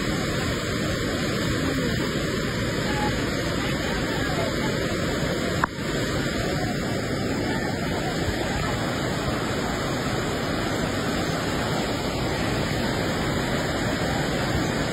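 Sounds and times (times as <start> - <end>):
river roaring under bridge: 0.0 - 14.9.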